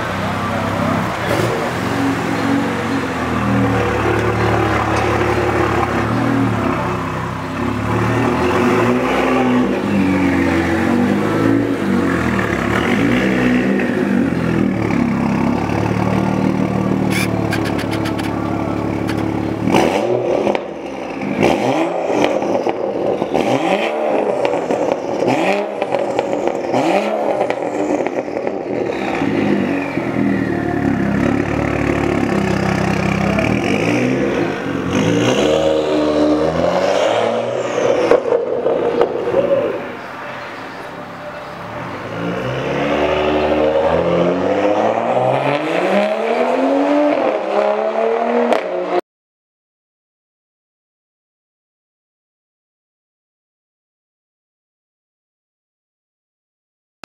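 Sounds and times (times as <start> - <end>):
car engine revving: 0.0 - 40.3, 41.9 - 49.0.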